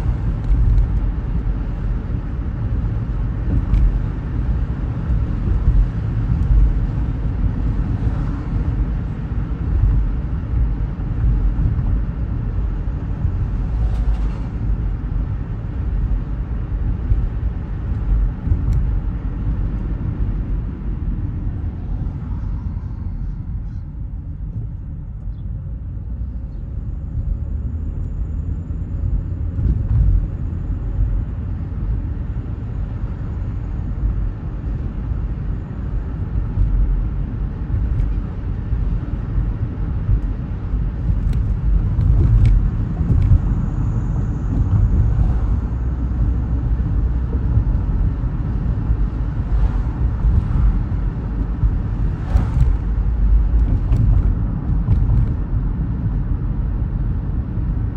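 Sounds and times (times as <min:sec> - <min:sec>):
car road rumble: 0:00.0 - 0:57.9.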